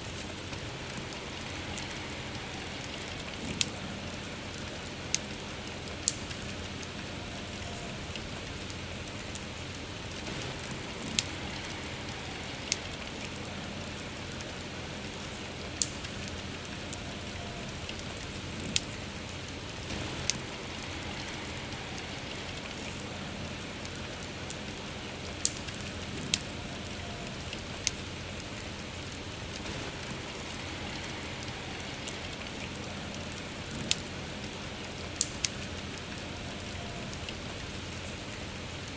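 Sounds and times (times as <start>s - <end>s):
bonfire crackling and popping: 0.0s - 38.9s
soft rain falling: 0.0s - 38.9s.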